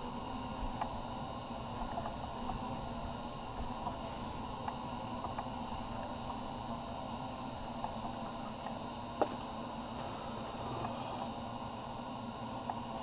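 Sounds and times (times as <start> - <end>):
background hum and hiss: 0.0 - 13.0
thin high whine: 0.0 - 13.0.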